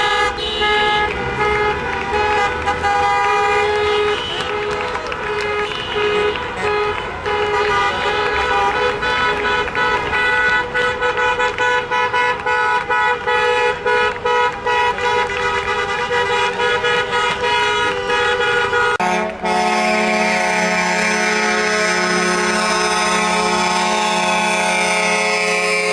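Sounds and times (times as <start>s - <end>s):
deep steady horn: 0.0s - 25.9s
vehicle horns honking: 0.0s - 25.9s.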